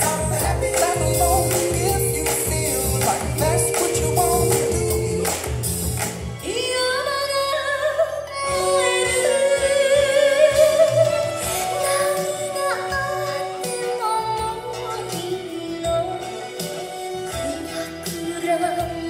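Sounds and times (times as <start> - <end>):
song with steady beat over speakers: 0.0 - 7.4, 8.5 - 19.0.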